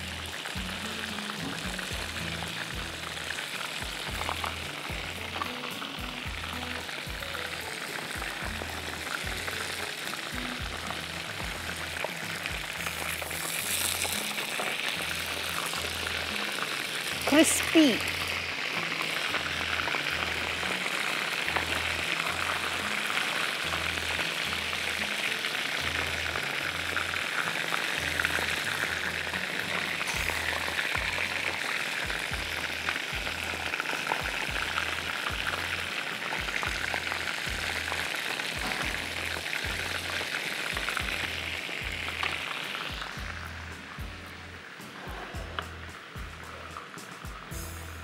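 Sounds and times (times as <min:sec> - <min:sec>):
fish deep-frying in oil: 0:00.0 - 0:48.0.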